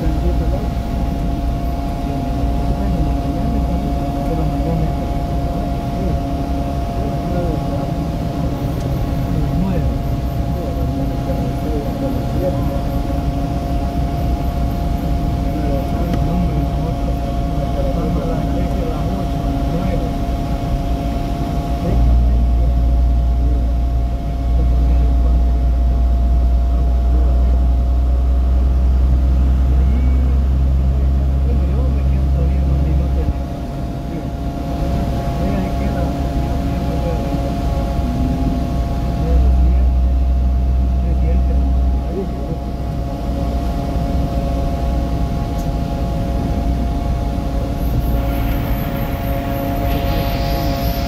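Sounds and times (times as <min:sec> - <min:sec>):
constant steady tone: 0:00.0 - 0:51.0
faint constant whine: 0:00.0 - 0:51.0.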